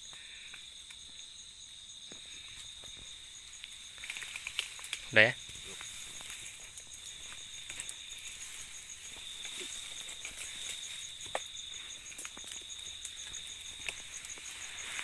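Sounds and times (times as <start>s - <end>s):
clicks and rustles in grass: 0.0s - 15.0s
insects trilling: 0.0s - 15.0s
rapidly pulsing insect chirp: 0.0s - 15.0s.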